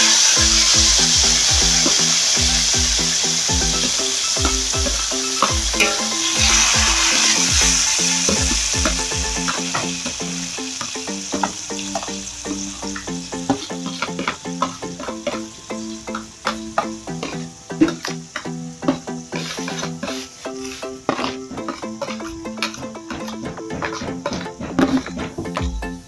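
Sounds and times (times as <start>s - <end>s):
background music with beat: 0.0s - 26.0s
chicken sizzling in oil: 0.0s - 26.0s.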